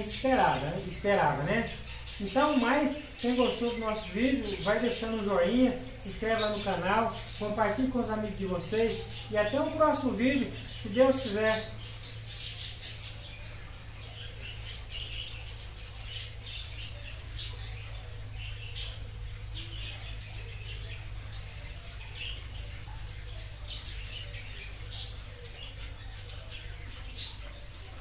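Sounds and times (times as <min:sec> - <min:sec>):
birds chirping: 0:00.0 - 0:28.0
low background hum: 0:00.0 - 0:28.0
steady high-pitched whine: 0:00.0 - 0:28.0.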